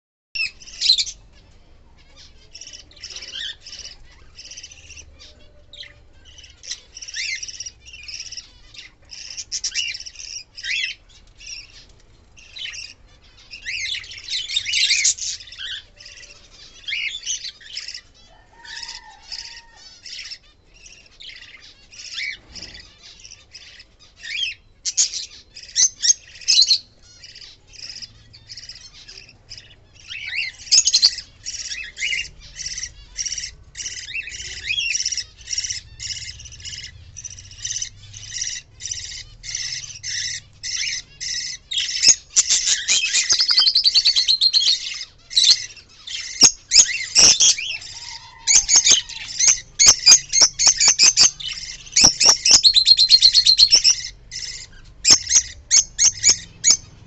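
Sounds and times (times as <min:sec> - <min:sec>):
budgerigars chirping and chattering: 0:00.4 - 0:57.0.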